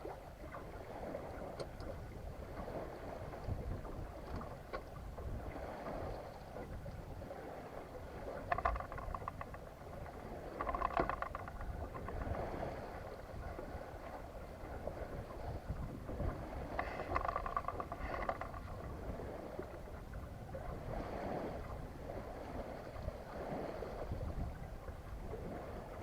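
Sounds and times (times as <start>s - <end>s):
water lapping against hull: 0.0s - 26.0s.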